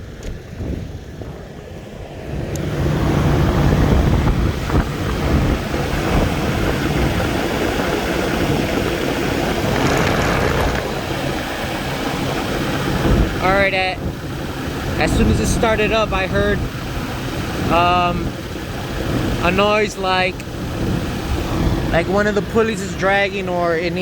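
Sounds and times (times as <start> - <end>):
car engine idling: 0.0 - 24.0
wind on microphone: 0.0 - 24.0.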